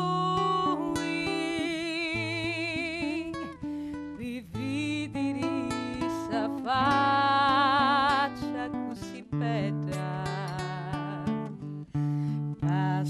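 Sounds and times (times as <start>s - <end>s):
woman singing with vibrato: 0.0s - 11.8s, 12.6s - 13.0s
fingerstyle nylon-string guitar: 0.0s - 13.0s.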